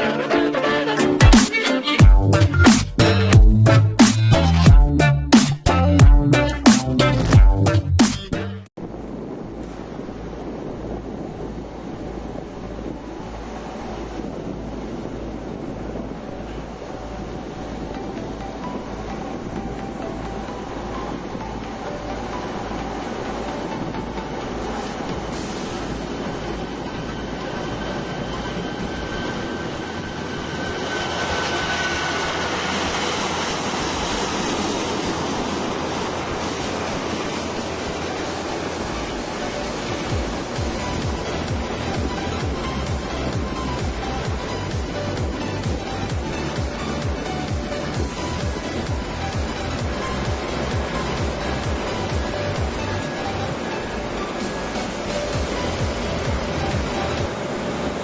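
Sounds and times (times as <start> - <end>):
large vehicle engine rumbling: 0.0 - 58.0
faint high whine: 8.8 - 58.0.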